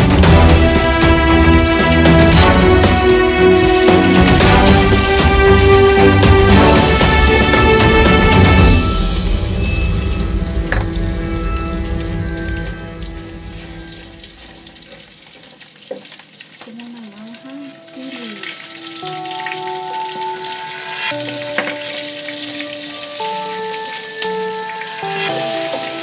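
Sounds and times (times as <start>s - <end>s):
background music with held notes: 0.0s - 15.2s, 16.9s - 26.0s
meat sizzling in oil: 1.1s - 26.0s.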